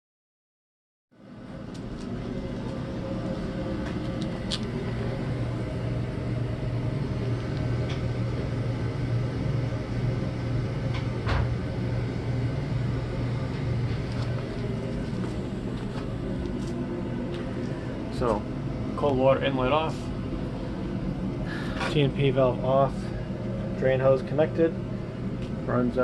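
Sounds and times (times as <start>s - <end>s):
machinery hum and rumble: 1.2s - 26.0s.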